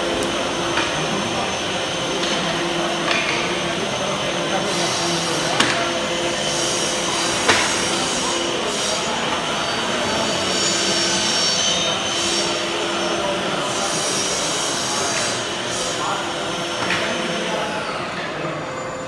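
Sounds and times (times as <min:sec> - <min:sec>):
power tools whining: 0:00.0 - 0:19.0.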